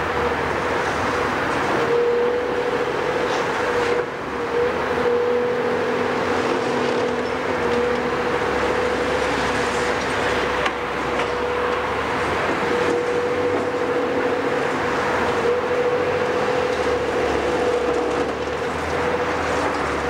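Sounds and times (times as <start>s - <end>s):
demolition crusher in concrete rubble: 0.0s - 20.0s
excavator engine and hydraulics: 0.0s - 20.0s.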